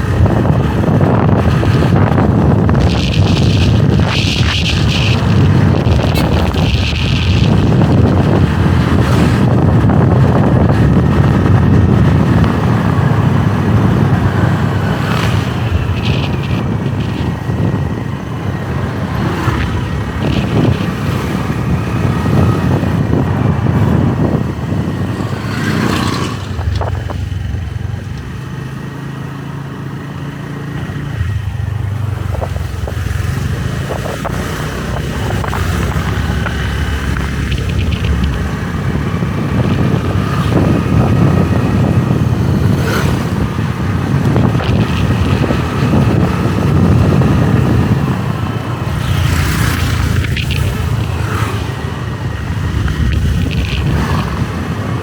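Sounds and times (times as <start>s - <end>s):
motorbike engine: 0.0s - 55.0s
road noise: 0.0s - 55.0s.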